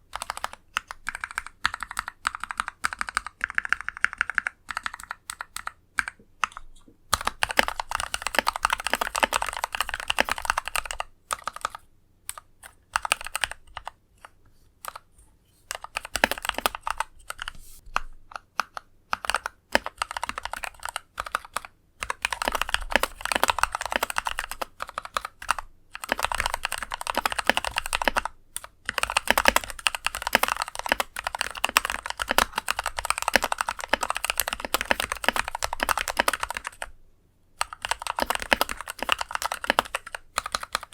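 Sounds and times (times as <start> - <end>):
mechanical keyboard typing: 0.1 - 15.1, 15.7 - 36.9, 37.6 - 40.9.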